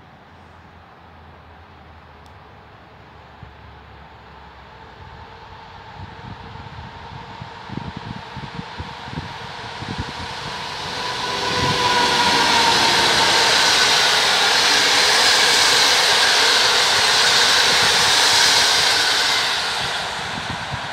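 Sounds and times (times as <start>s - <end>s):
train wheels rushing on rails: 3.4s - 20.9s.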